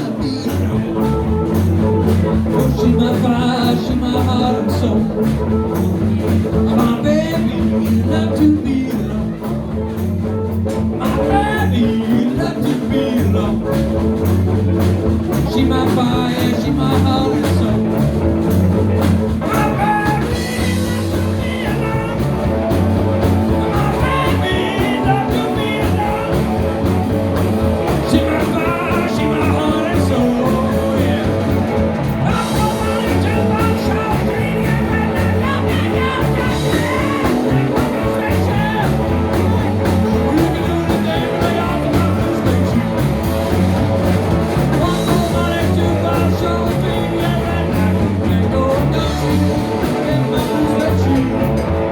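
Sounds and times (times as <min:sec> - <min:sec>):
bass guitar: 0:00.0 - 0:51.9
drums with steady beat: 0:00.0 - 0:51.9
electric guitar: 0:00.0 - 0:51.9.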